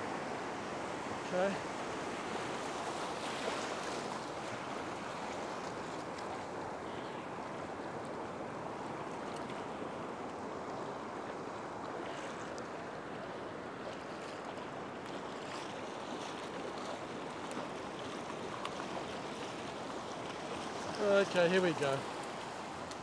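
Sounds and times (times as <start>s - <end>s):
small waves washing in: 0.0s - 23.0s.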